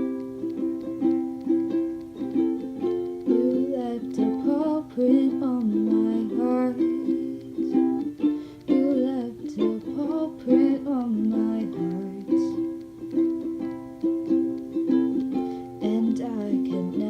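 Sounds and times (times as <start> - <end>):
person singing: 0.0 - 17.0
ukulele playing: 0.0 - 17.0.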